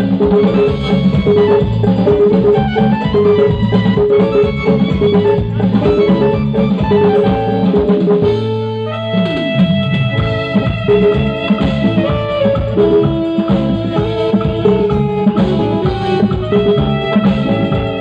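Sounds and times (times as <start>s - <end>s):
live band playing: 0.0s - 18.0s
note sliding down in pitch: 0.0s - 18.0s.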